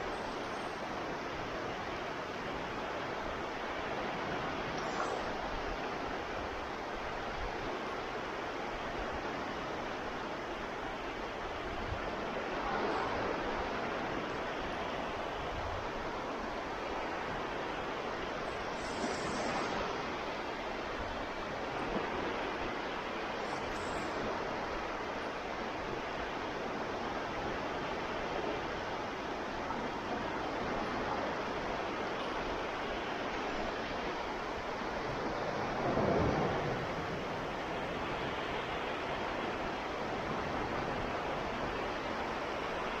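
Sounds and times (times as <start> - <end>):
waves washing on shore: 0.0 - 43.0.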